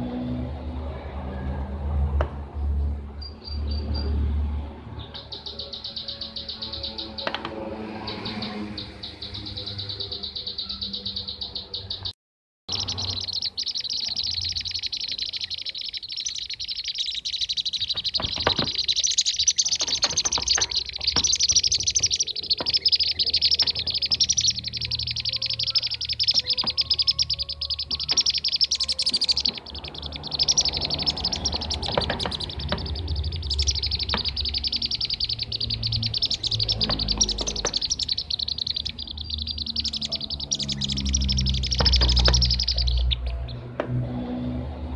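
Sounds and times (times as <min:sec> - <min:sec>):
bee-eater chirping chorus: 0:05.0 - 0:12.1, 0:12.7 - 0:43.7.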